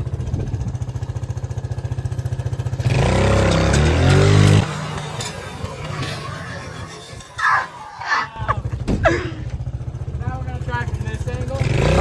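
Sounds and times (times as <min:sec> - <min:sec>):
atv engine idling and revving: 0:00.0 - 0:07.2, 0:08.3 - 0:12.0.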